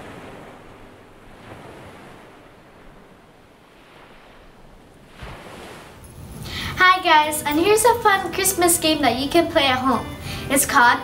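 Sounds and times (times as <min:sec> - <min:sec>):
ocean surf washing in: 0:00.0 - 0:09.1.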